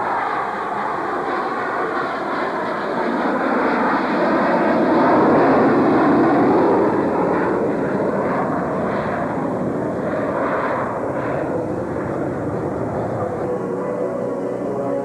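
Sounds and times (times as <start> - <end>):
jet passing and climbing: 0.0 - 15.0.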